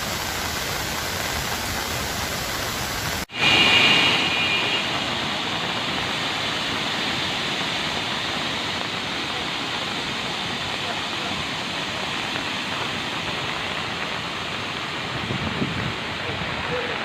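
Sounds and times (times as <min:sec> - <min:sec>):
water rushing through spillway: 0:00.0 - 0:17.0.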